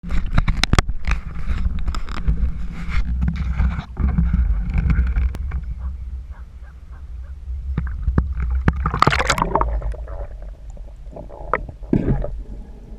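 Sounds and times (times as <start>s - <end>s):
muffled water sloshing and bubbling: 0.0s - 12.9s.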